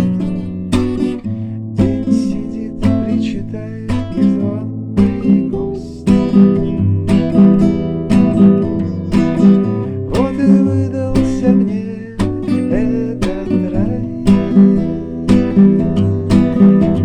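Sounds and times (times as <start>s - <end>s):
acoustic guitar strumming: 0.0s - 17.0s
sliding guitar melody: 0.0s - 17.0s.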